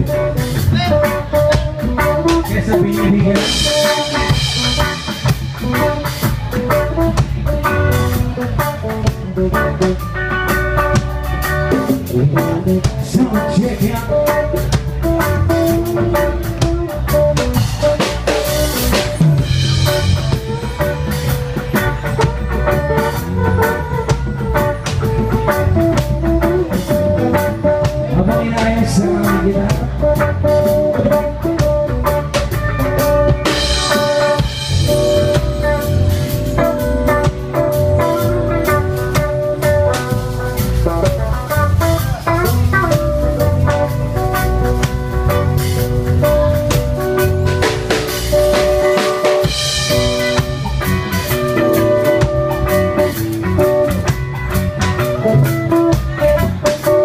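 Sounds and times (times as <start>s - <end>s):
band music with drums and guitar: 0.0s - 57.0s.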